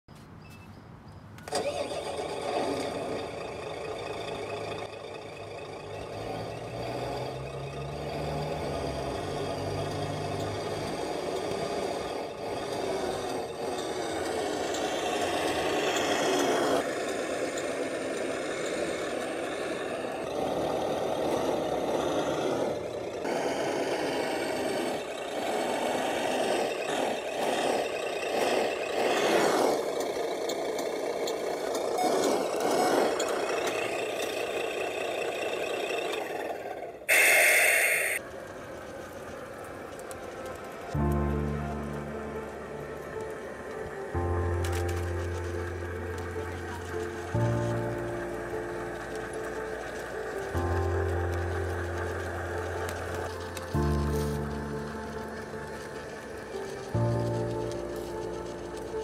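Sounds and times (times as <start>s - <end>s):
toy truck engine running: 0.3s - 59.0s.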